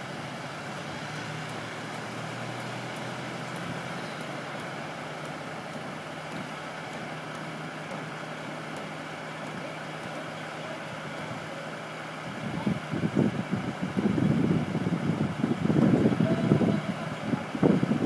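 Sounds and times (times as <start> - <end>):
outdoor hiss: 0.0 - 17.8
engine humming: 0.0 - 18.0.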